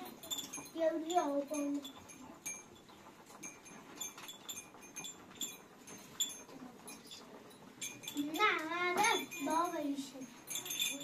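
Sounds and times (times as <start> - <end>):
small bells tinkling: 0.0 - 11.0.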